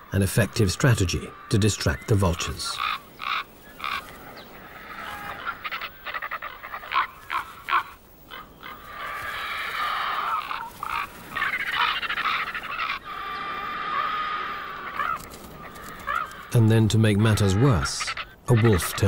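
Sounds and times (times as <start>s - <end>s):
short croaking calls: 0.6s - 16.6s
longer rasping calls: 1.0s - 16.6s.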